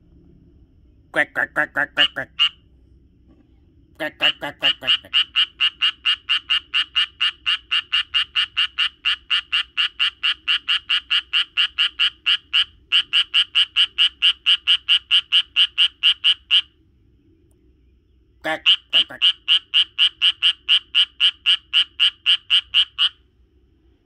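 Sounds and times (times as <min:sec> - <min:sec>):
tree frog calling: 0:01.1 - 0:02.7, 0:04.0 - 0:16.8, 0:18.4 - 0:23.3.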